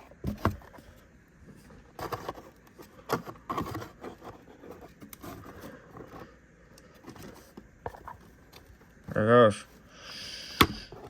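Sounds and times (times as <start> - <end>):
toy packaging scraping and rustling: 0.0 - 11.0.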